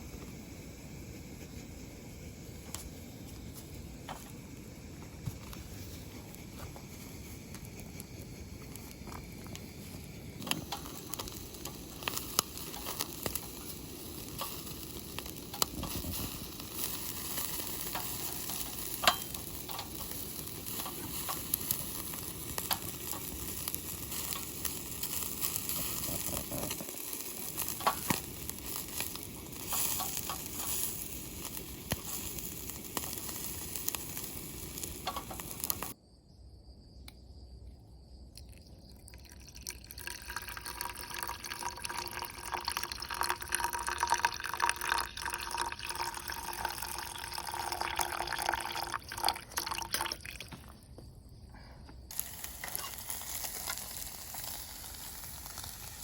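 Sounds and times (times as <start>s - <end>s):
food sizzling in a frying pan: 0.0s - 36.0s, 39.8s - 50.1s, 52.1s - 56.0s.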